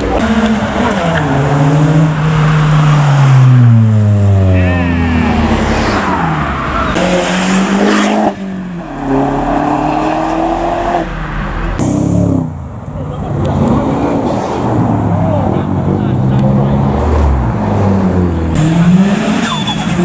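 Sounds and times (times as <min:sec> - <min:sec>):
car engines revving and accelerating: 0:00.0 - 0:20.0.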